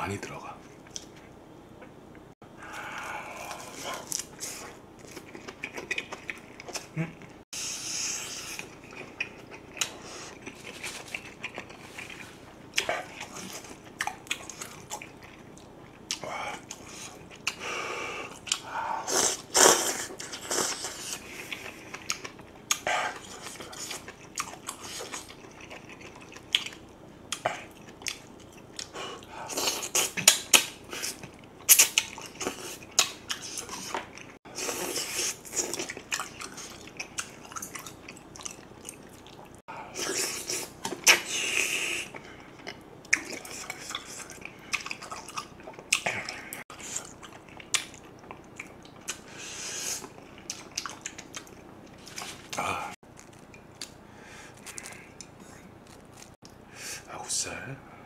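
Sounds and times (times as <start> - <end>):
person chewing food: 2.6 - 56.6.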